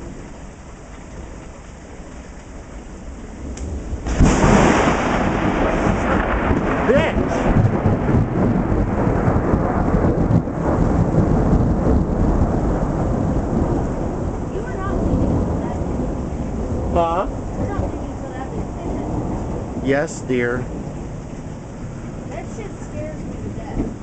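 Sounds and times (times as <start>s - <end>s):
rain falling: 0.0s - 24.0s
thunder rumbling: 0.0s - 24.0s.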